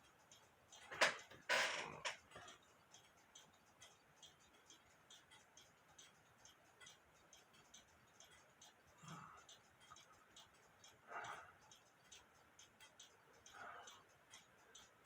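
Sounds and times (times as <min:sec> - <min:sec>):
clock ticking: 0:00.0 - 0:15.0.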